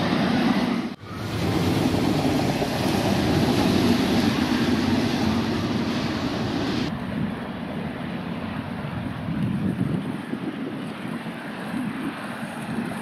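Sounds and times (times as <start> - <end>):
roller coaster train rumbling: 0.0 - 13.0.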